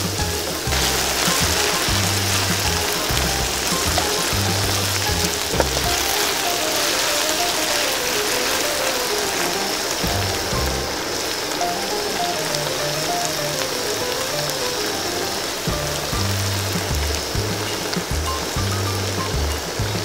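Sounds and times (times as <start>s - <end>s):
background music: 0.0s - 20.0s
deep-frying sizzle: 0.0s - 20.0s.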